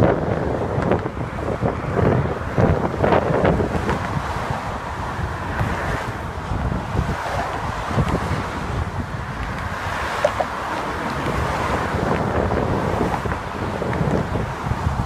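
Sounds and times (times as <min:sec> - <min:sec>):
car traffic passing: 0:00.0 - 0:15.0
wind buffeting microphone: 0:00.0 - 0:15.0.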